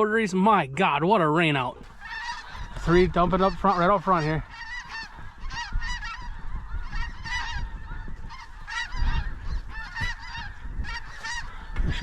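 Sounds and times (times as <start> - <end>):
geese honking: 1.5 - 12.0
wind rumble on microphone: 1.8 - 12.0.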